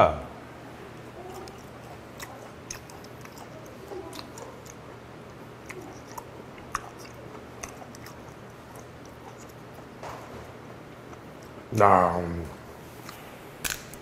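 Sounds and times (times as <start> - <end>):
man chewing with wet clicks: 1.1 - 10.0, 10.6 - 11.7, 12.9 - 14.0.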